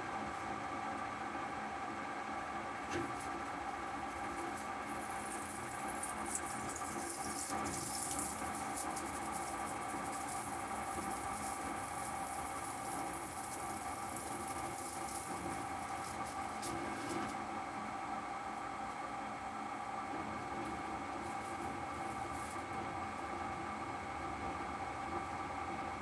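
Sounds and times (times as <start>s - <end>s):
lathe spindle humming: 0.0s - 26.0s.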